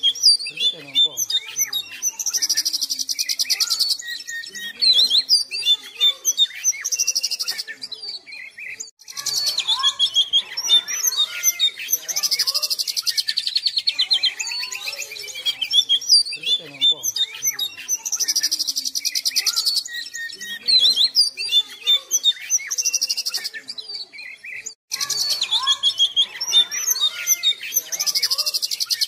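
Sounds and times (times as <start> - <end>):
fast buzzy bird trills: 0.0 - 23.7, 24.5 - 29.0
songbird singing: 0.0 - 29.0.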